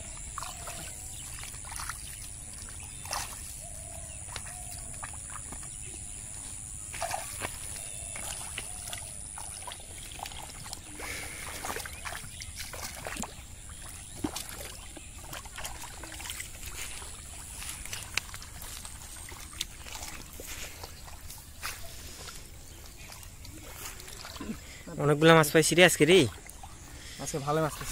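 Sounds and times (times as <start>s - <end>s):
splashing in muddy water: 0.0s - 27.9s.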